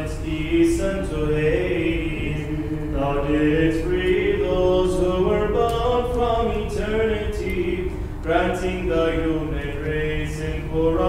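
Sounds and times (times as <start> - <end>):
a cappella chant: 0.0 - 11.0.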